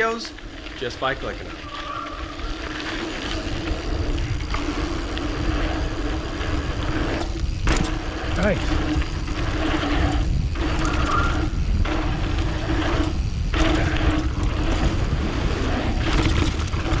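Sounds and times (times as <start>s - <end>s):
bike tyre rumble: 0.0s - 17.0s
wind noise: 0.0s - 17.0s.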